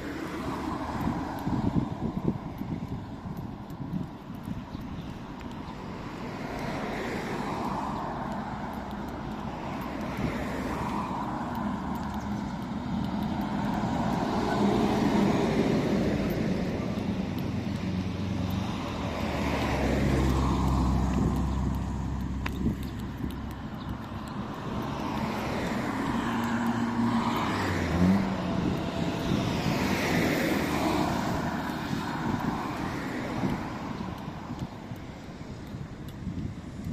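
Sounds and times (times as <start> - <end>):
vehicles passing: 0.0 - 36.9
heavy vehicle engine hum: 5.2 - 35.6.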